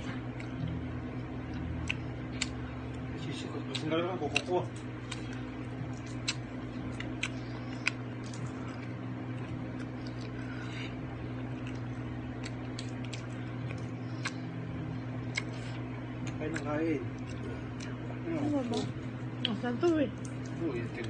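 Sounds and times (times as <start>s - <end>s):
low hum: 0.0s - 21.0s
wet chewing: 0.0s - 21.0s.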